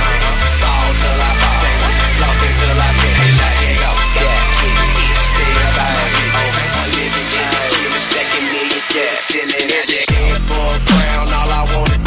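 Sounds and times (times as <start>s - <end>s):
music with deep bass line: 0.0s - 9.1s, 10.1s - 12.0s
vocal over music: 0.0s - 12.0s.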